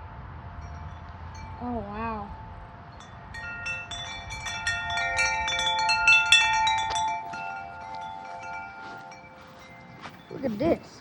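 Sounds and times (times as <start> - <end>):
gusty wind: 0.0 - 11.0
wind chimes jangling: 0.5 - 11.0.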